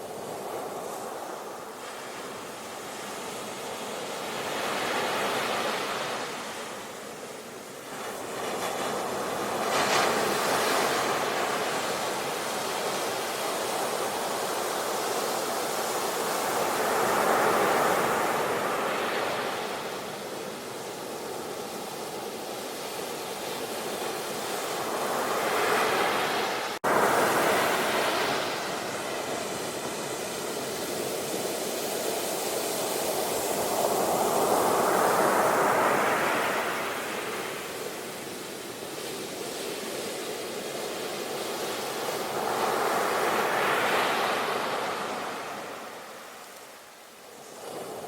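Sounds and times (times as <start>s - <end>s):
sea waves breaking on shore: 0.0s - 48.0s.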